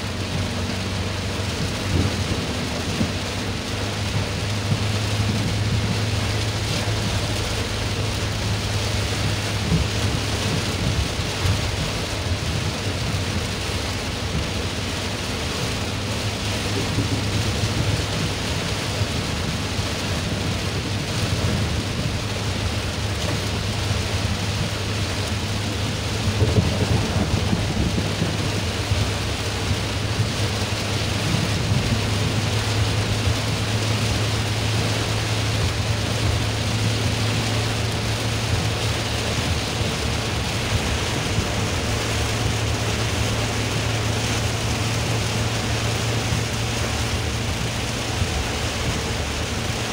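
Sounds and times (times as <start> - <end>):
engine and road drone: 0.0 - 49.9
heavy rain on car roof: 0.0 - 49.9.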